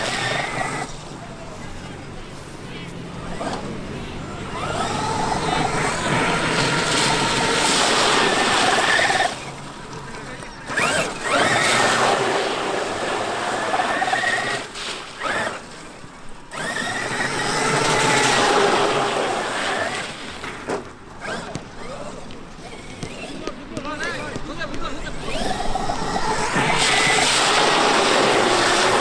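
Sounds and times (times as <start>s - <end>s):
electric motor whining: 0.0s - 29.0s.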